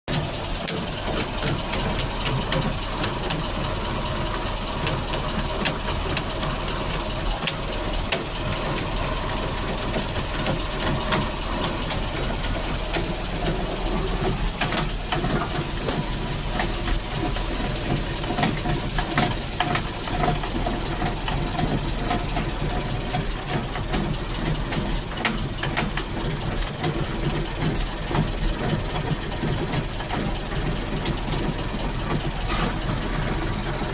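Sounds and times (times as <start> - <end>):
driveshaft hum and hiss: 0.1 - 33.9
sharp clicks and knocks: 0.1 - 33.9.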